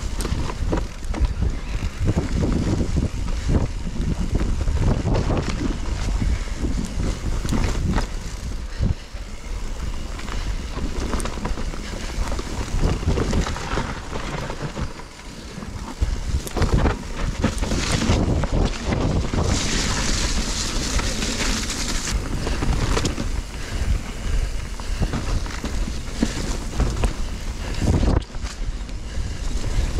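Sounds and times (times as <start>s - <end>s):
bike rattling and knocking: 0.0s - 29.9s
wind buffeting microphone: 0.0s - 29.9s.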